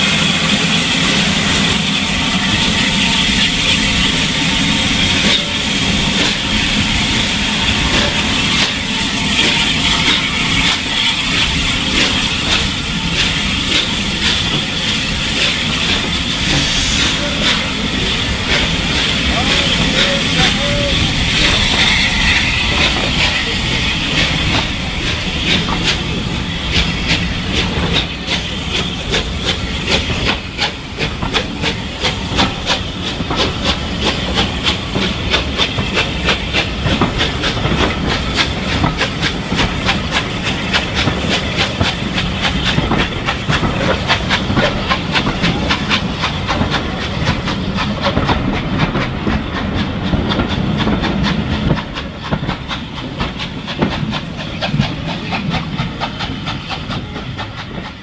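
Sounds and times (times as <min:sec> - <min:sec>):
steam hiss: 0:00.0 - 0:58.0
train wheels clicking over rail joints: 0:00.0 - 0:58.0.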